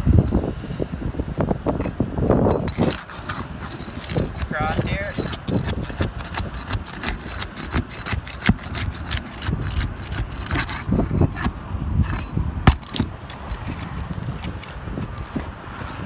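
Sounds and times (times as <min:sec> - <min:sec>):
wind rumble on microphone: 0:00.0 - 0:16.0
pry bar scraping shingles: 0:01.8 - 0:16.0.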